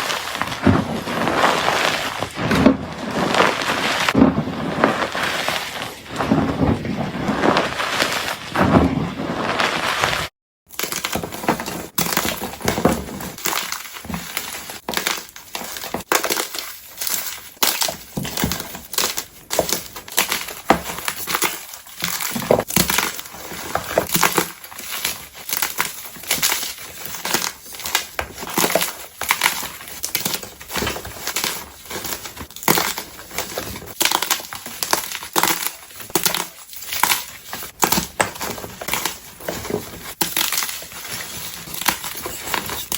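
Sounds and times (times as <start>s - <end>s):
chalk crushed by hand: 0.0s - 42.9s.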